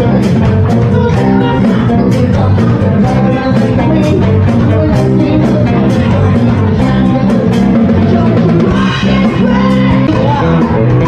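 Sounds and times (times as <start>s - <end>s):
band music with drums and guitar: 0.0s - 11.0s.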